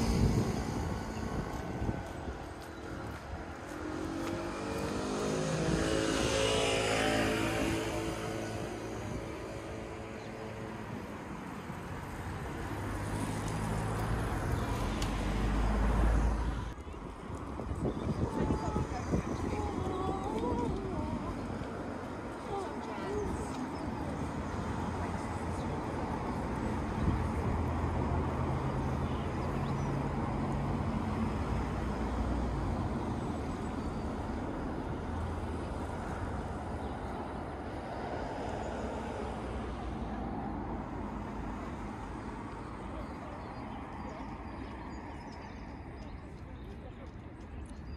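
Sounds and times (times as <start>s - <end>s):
road traffic passing: 0.0s - 47.9s
vehicle engine rumble: 0.0s - 47.9s.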